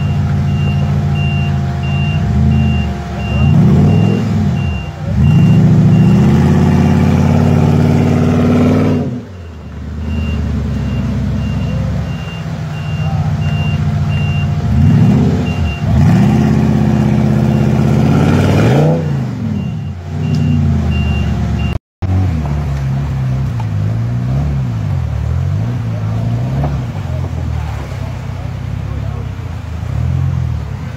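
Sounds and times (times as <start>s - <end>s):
engine with wavering pitch: 0.0s - 30.9s
off-road engine revving: 0.0s - 30.9s
vehicle driving through water: 0.0s - 30.9s.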